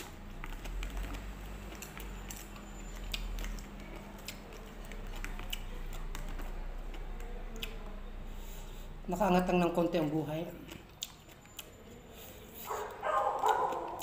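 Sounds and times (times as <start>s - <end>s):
person chewing: 0.0s - 9.0s, 10.4s - 14.0s.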